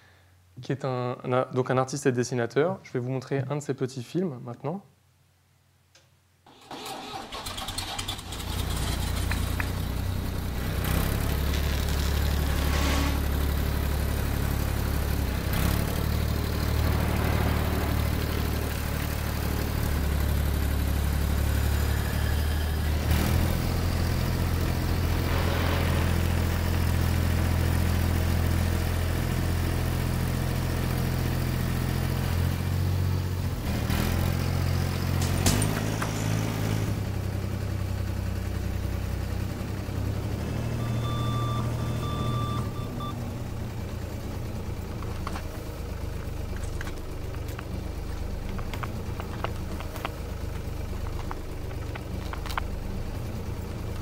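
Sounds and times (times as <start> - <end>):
tractor engine droning: 6.5 - 54.0.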